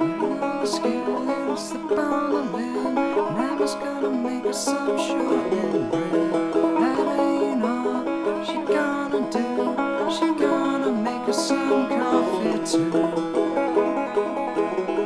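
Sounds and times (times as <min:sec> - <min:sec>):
folk string music plucked: 0:00.0 - 0:15.0.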